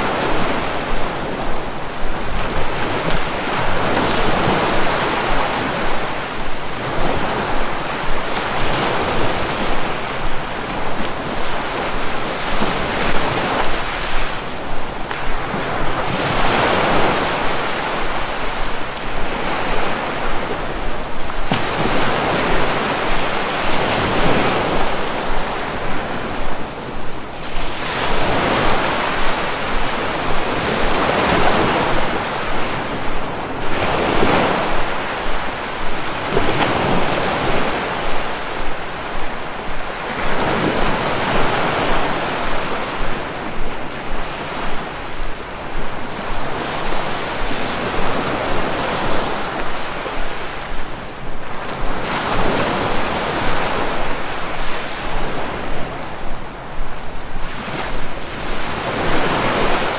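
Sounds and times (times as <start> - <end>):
sea waves breaking ashore: 0.0 - 59.9.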